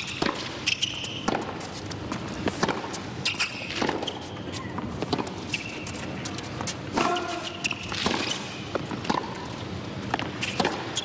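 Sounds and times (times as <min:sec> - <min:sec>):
racket hitting tennis ball: 0:00.0 - 0:11.0
shoes squeaking on court: 0:00.0 - 0:11.0.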